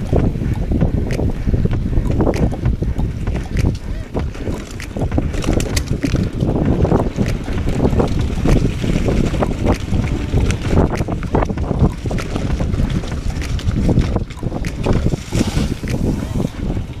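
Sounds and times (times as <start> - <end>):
bike knocking and rattling: 0.0 - 17.0
tyres rumbling over dirt trail: 0.0 - 17.0
wind buffeting microphone: 0.0 - 17.0.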